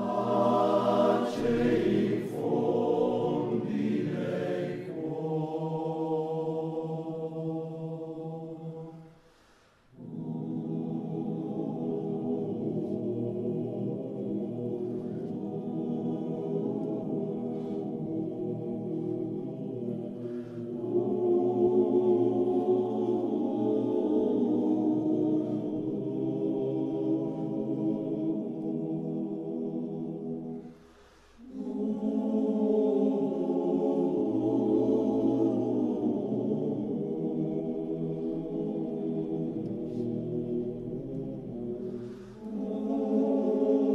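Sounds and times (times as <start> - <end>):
choir singing slow chords: 0.0 - 43.9.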